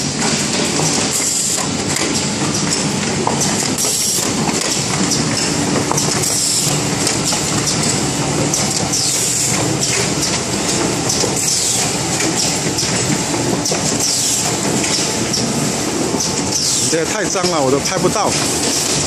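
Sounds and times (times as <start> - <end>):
machine mechanical clatter: 0.0 - 19.0.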